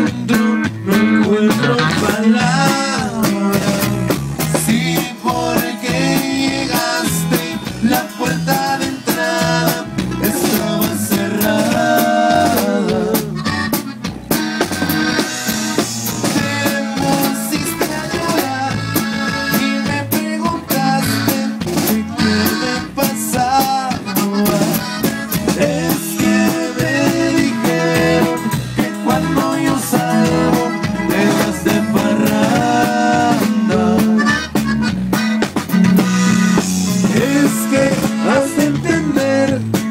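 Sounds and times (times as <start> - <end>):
drum kit beat: 0.0 - 39.9
live band playing: 0.0 - 39.9.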